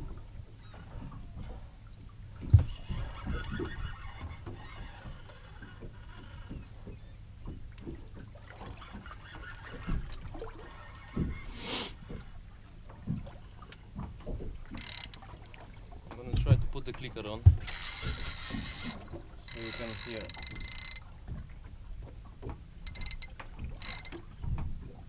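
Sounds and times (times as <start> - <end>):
wind and water rumble: 0.0 - 25.0
fishing reel knocks and creaks: 2.4 - 12.3, 13.6 - 21.4, 22.0 - 24.8.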